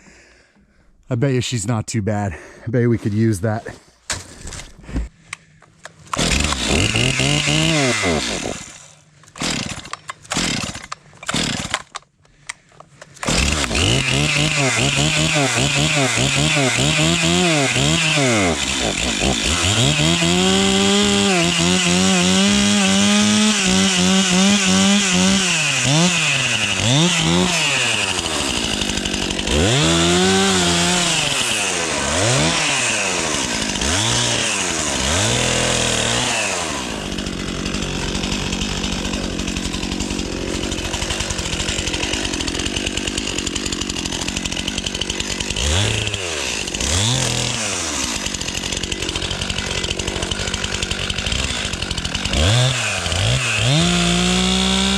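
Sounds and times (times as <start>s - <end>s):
chainsaw revving and cutting wood: 5.4s - 54.9s.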